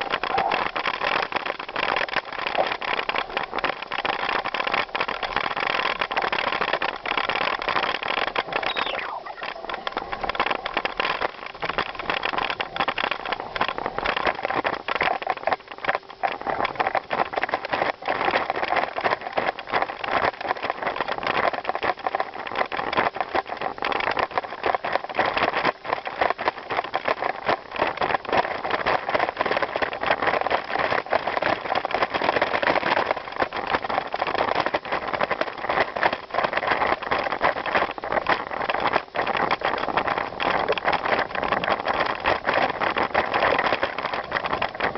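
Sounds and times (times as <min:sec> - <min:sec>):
bicycle tyres crunching on gravel: 0:00.0 - 0:44.9.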